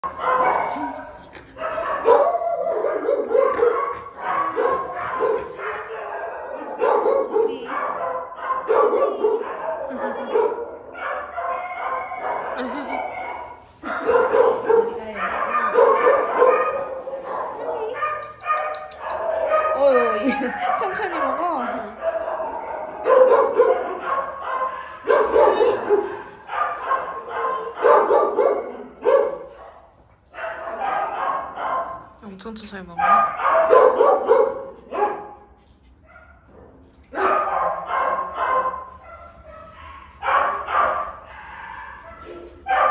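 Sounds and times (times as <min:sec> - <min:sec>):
dog barking: 0:00.0 - 0:32.1, 0:33.0 - 0:35.5, 0:36.1 - 0:42.9.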